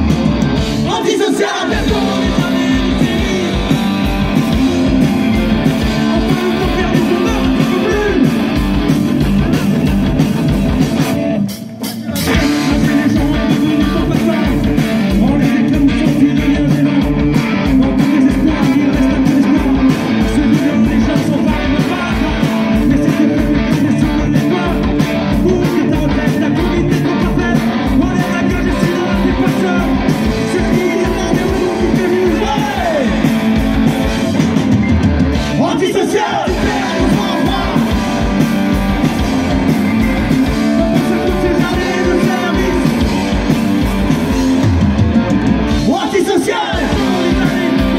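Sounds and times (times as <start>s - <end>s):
bass guitar: 0.0s - 47.9s
drum kit steady beat: 0.0s - 47.9s
electric guitars: 0.0s - 47.9s
keyboard: 0.0s - 47.9s
sung vocals: 0.6s - 8.8s, 11.8s - 34.5s, 35.4s - 44.6s, 45.7s - 47.9s.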